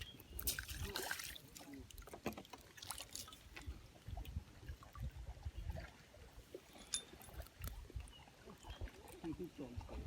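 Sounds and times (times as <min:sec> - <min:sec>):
light water sounds: 0:00.0 - 0:10.0.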